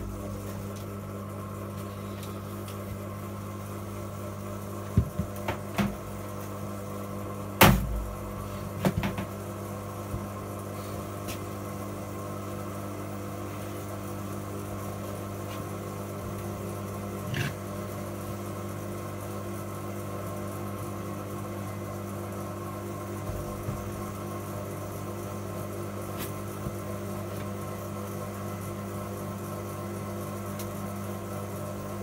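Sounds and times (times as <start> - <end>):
washing machine spinning: 0.0 - 32.0.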